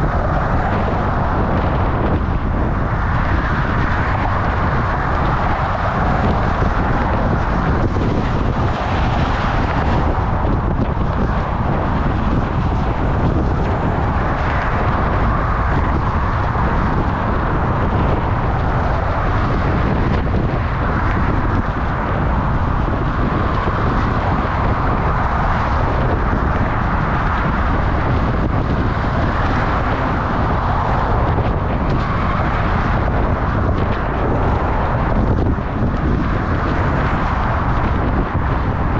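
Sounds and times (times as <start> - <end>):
road traffic noise: 0.0 - 38.9
wind roaring on microphone: 0.0 - 38.9.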